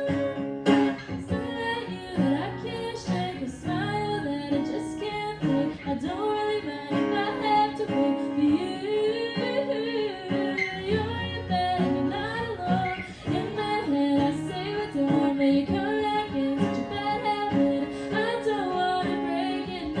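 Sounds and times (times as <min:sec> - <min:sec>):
acoustic guitar: 0:00.0 - 0:20.0
woman singing: 0:00.0 - 0:20.0.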